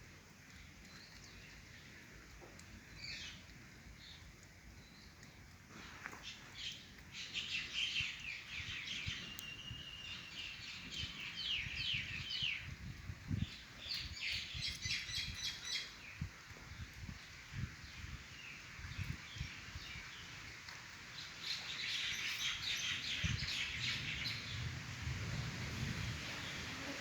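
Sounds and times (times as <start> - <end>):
small birds chirping: 0.4 - 24.7.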